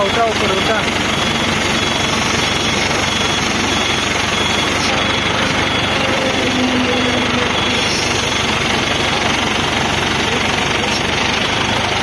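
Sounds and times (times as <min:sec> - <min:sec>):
faint high beeps: 0:00.0 - 0:11.3
diesel engine running: 0:00.0 - 0:12.0.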